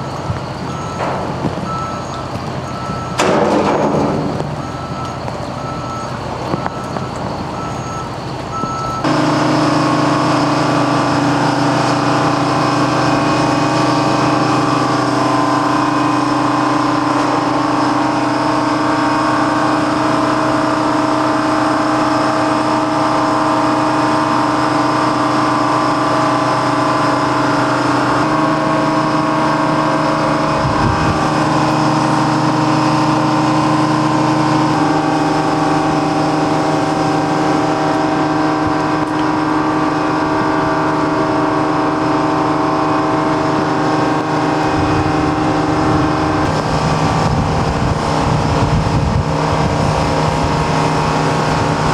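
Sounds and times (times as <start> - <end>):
machinery warning beeps: 0.0 - 46.6
heavy diesel engine running: 0.0 - 51.9.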